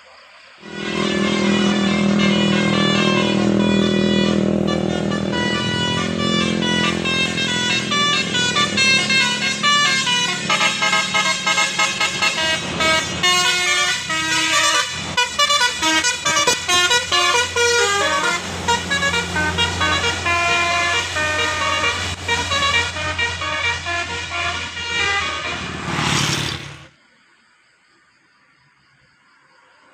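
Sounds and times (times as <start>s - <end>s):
bus multi-tone horn melody: 0.6s - 26.9s
low engine hum: 0.7s - 26.9s.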